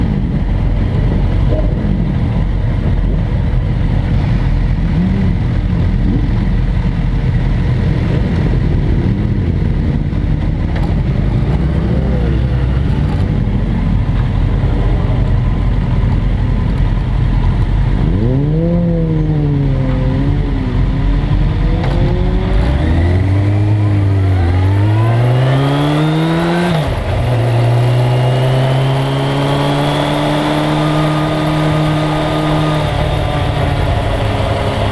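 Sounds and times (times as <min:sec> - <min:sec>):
wind rumble on microphone: 0:00.0 - 0:30.0
motorcycle engine revving: 0:00.0 - 0:34.9.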